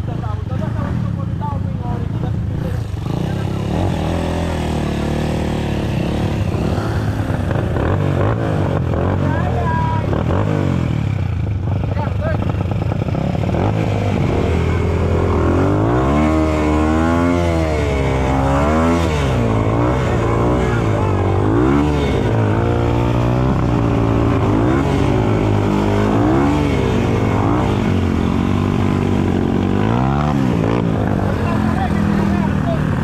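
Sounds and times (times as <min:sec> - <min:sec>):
off-road motorcycle engine revving: 0:00.0 - 0:33.0.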